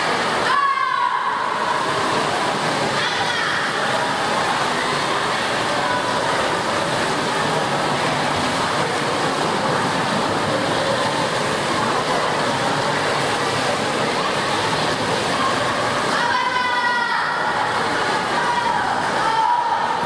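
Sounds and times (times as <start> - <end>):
swimmers splashing in pool: 0.0 - 20.0.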